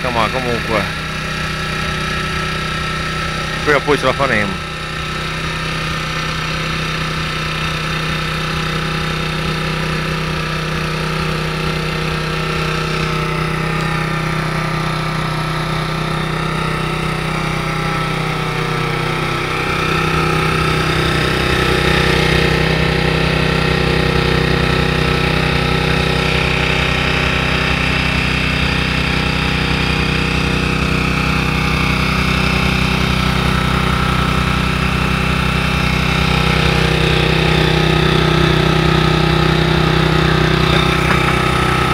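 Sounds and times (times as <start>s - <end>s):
snowblower engine running: 0.0s - 41.9s.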